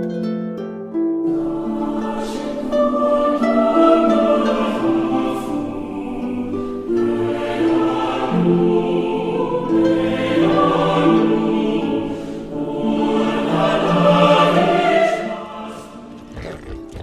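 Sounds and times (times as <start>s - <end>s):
choir singing long held notes: 1.2s - 16.3s.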